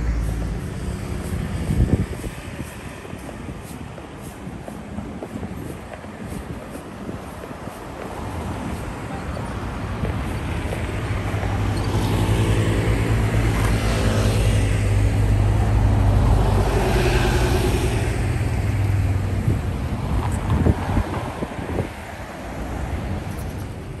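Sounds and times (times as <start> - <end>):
street traffic: 0.0 - 24.0
vehicle engine humming: 0.0 - 24.0.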